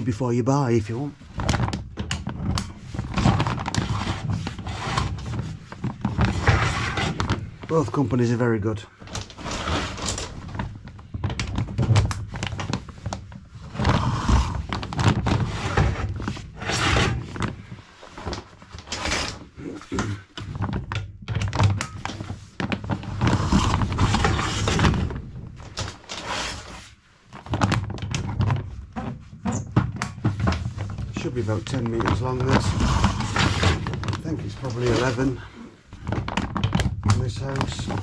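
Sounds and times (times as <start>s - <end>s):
sweeping rods knocking and scraping: 0.0s - 38.0s.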